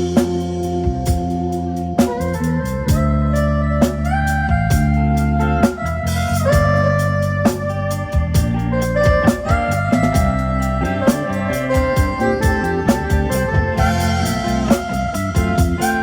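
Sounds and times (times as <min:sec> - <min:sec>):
bass: 0:00.0 - 0:16.0
organ-like keyboard lead: 0:00.0 - 0:16.0
steady drum beat: 0:00.0 - 0:16.0.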